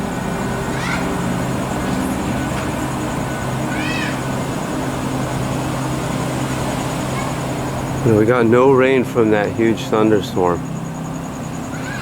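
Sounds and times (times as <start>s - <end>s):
noisy background: 0.0s - 12.0s
steady low hum: 0.0s - 12.0s.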